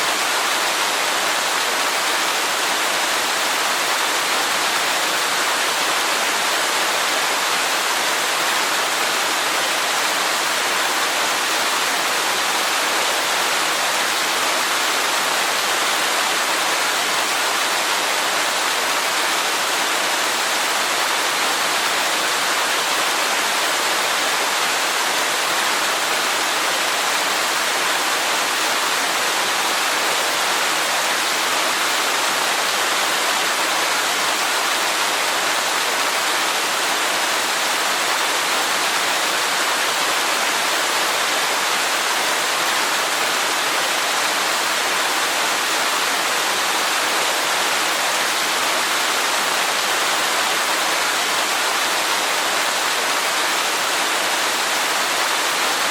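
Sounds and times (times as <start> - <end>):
waterfall hiss: 0.0 - 55.9.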